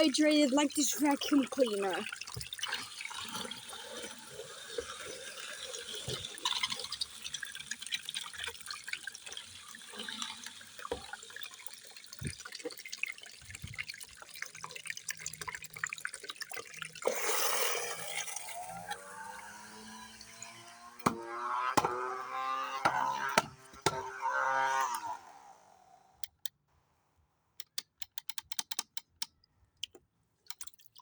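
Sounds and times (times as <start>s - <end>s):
handheld vacuum sucking up water: 0.0s - 25.9s.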